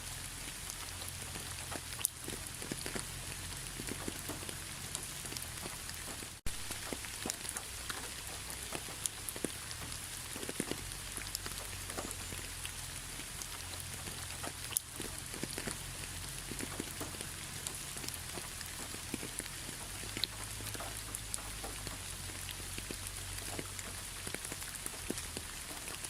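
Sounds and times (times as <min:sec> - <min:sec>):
rain falling: 0:00.0 - 0:26.0
raindrops ticking on a surface: 0:00.0 - 0:26.0.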